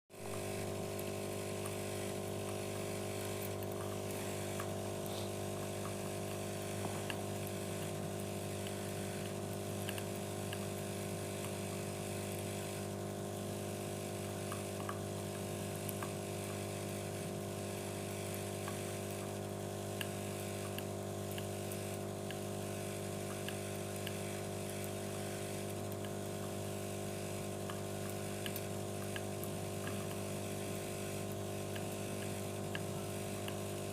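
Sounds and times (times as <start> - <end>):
machine hum: 0.1 - 33.9
faint ticks: 0.3 - 12.4, 14.4 - 33.9.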